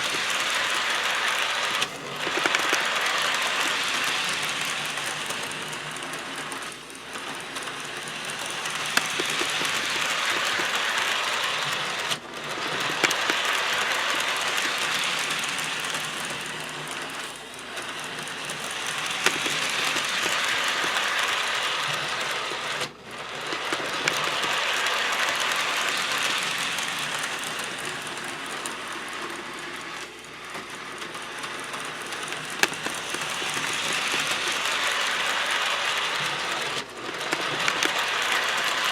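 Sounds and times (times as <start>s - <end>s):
model train motor and wheels whirring: 0.0s - 38.9s.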